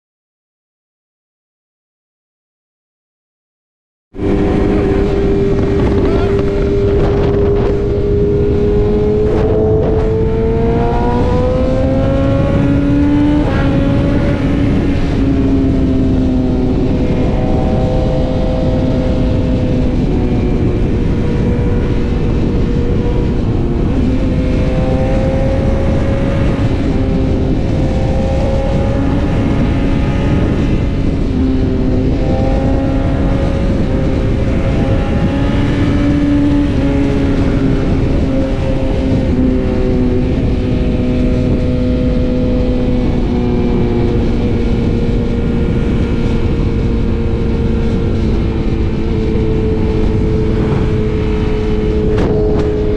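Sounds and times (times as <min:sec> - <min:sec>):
motorcycle engine accelerating: 0:04.1 - 0:52.9
wind rushing over microphone: 0:04.1 - 0:52.9.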